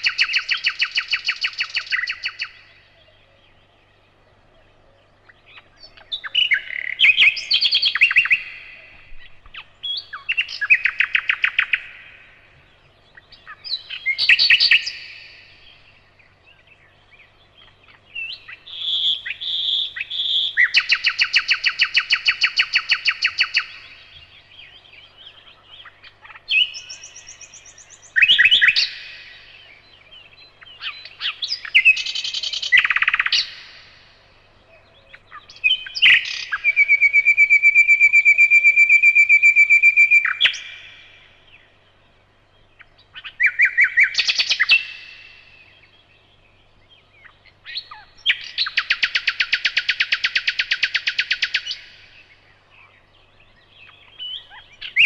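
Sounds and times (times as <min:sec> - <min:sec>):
nightingale singing: 0:00.0 - 0:55.0.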